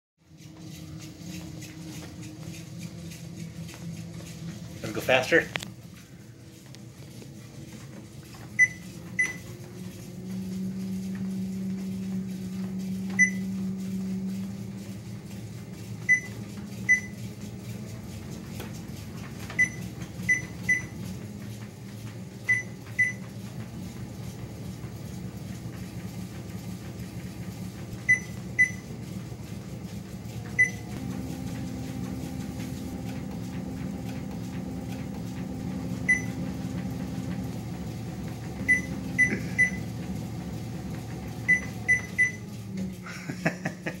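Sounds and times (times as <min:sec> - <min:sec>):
treadmill motor humming: 0:00.2 - 0:44.0.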